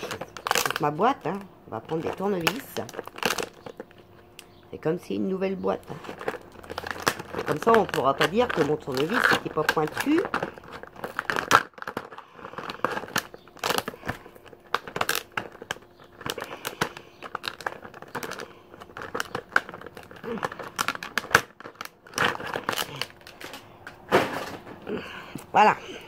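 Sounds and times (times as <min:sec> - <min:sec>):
packaging crinkling and tearing: 0:00.0 - 0:04.6, 0:05.8 - 0:26.0.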